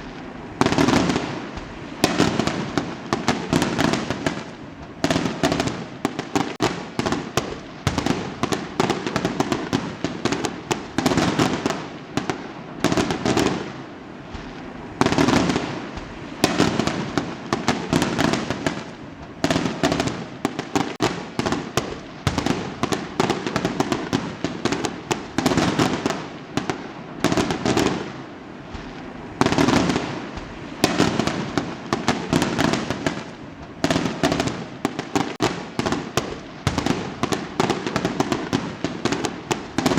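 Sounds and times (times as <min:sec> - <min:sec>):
fireworks crackling: 0:00.0 - 0:39.9
fireworks exploding: 0:00.0 - 0:39.9.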